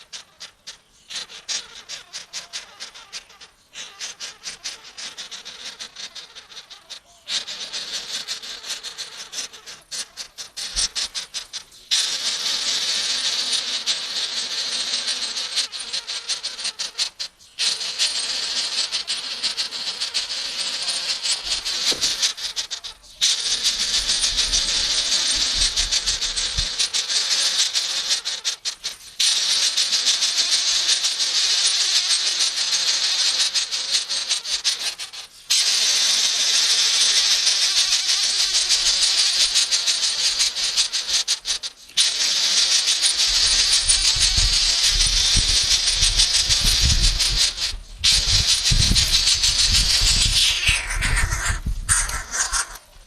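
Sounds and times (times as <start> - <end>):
high-pitched rasping insect chorus: 4.9 - 52.9.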